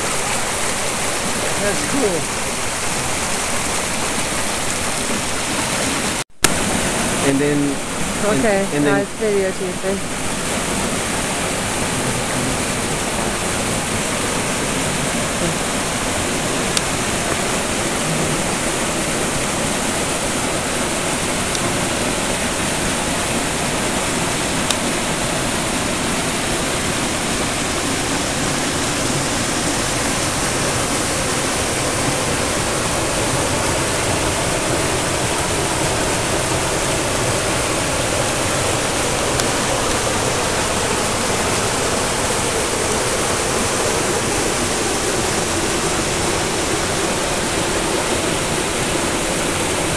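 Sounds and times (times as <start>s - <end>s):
creek rushing over boulders: 0.0s - 49.9s.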